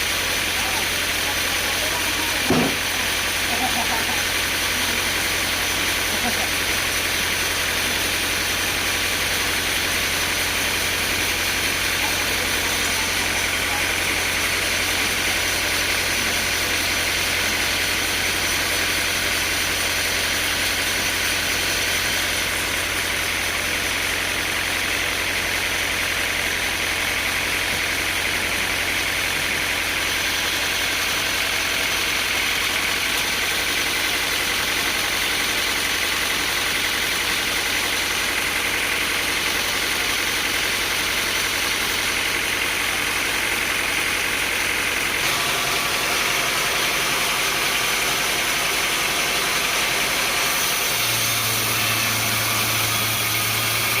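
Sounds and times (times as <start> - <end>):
sawmill machinery droning: 0.0 - 54.0.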